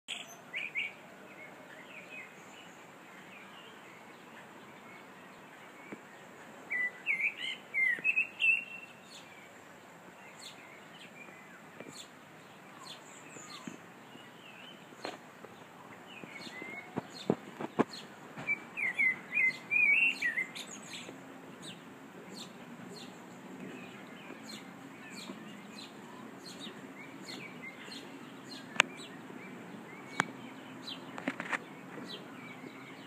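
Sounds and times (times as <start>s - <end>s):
small birds chirping and singing: 0.1s - 33.0s
steady background hiss: 0.1s - 33.0s.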